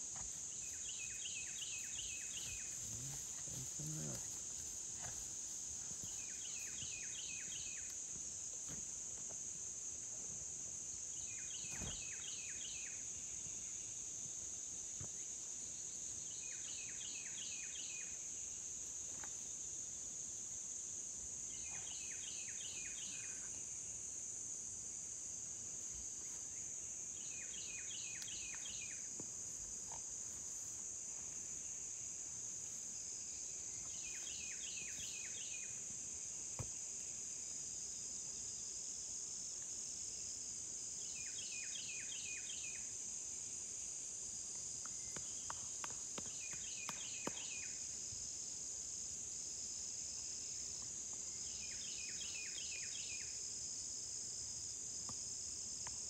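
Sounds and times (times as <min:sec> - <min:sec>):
short pulsed insect call: 0:00.0 - 0:10.0, 0:10.8 - 0:56.0
insect chorus drone: 0:00.0 - 0:56.0.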